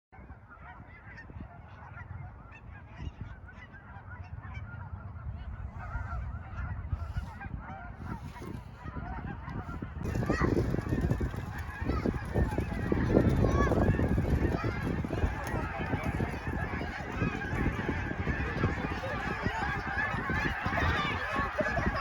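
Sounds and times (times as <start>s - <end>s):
geese honking: 0.5s - 22.0s.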